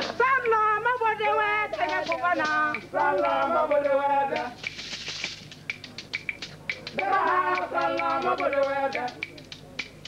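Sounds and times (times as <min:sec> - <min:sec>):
sharp irregular taps: 0:01.7 - 0:10.0.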